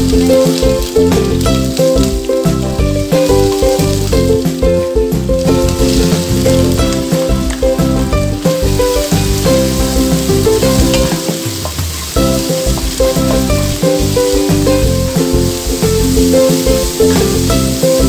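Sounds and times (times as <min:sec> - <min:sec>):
background music with steady beat: 0:00.0 - 0:18.0
onions sizzling in a pan: 0:00.0 - 0:18.0.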